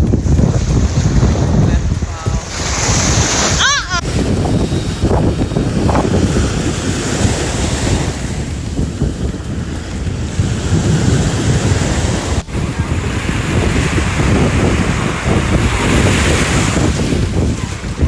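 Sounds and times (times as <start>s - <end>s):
waves washing: 0.0s - 18.0s
wind buffeting microphone: 0.0s - 18.0s.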